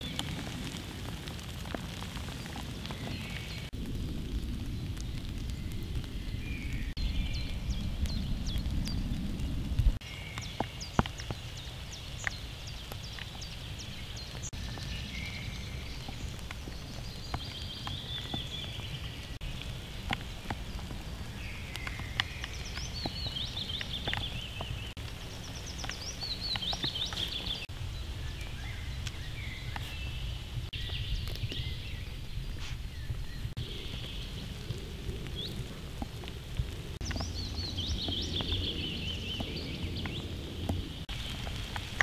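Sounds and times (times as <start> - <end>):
steady rain in forest: 0.0 - 42.0
songbirds trilling: 1.6 - 3.8, 4.4 - 42.0.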